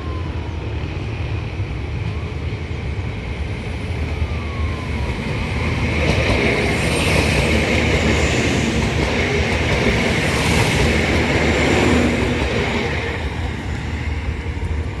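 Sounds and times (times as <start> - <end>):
diesel train engine rumble: 0.0 - 15.0.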